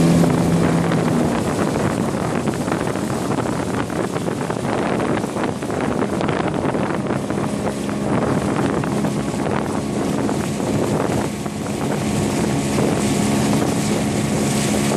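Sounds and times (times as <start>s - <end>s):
outboard motor running: 0.0s - 14.9s
wind noise on microphone: 0.0s - 14.9s.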